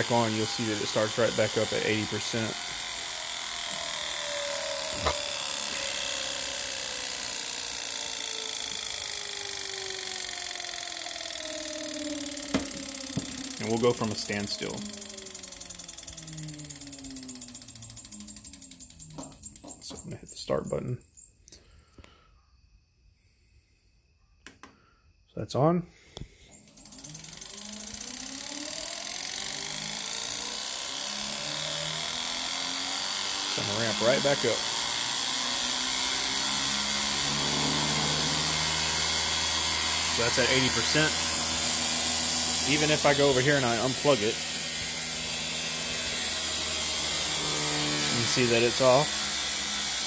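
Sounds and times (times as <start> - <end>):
motor whine falling in pitch: 0.0 - 20.2, 26.5 - 50.0.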